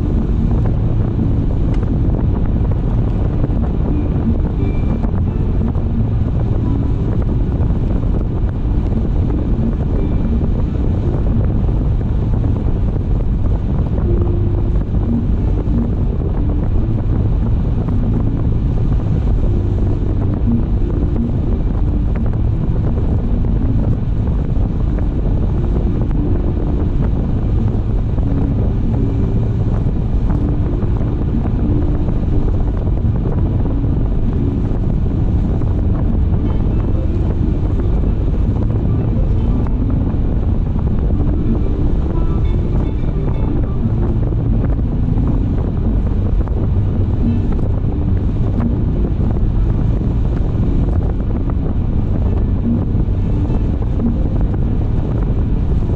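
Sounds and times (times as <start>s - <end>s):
car driving at speed: 0.0s - 55.9s.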